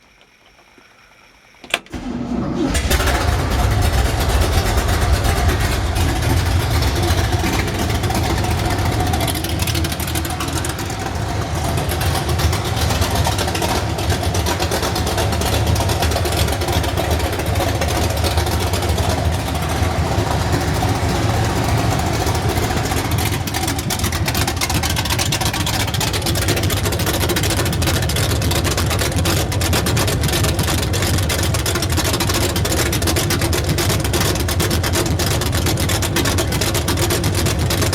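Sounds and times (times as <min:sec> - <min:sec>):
engine rough idle: 0:00.0 - 0:37.9.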